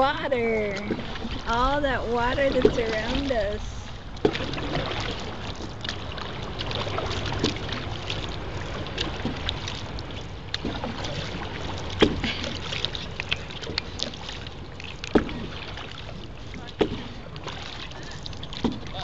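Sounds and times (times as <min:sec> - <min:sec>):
paddles splashing water: 0:00.0 - 0:19.0.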